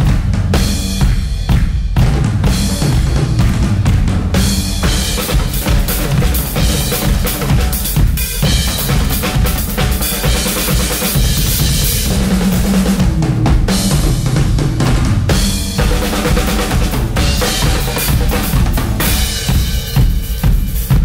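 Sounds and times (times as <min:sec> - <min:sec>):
drum kits played rapidly: 0:00.0 - 0:21.0.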